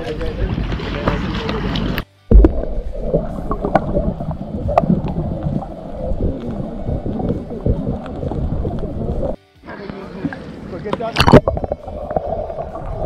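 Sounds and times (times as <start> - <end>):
underwater water bubbling: 0.2 - 9.4, 10.1 - 13.0.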